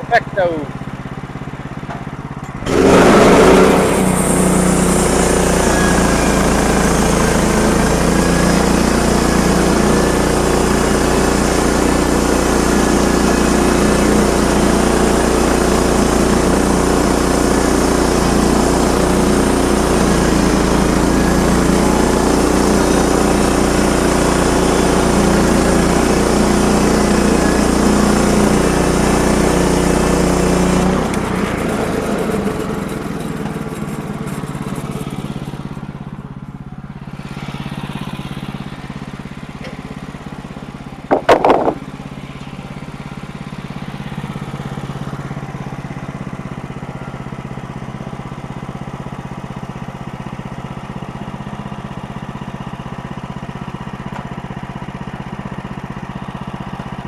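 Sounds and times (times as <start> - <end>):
gas engine running: 0.0 - 57.0.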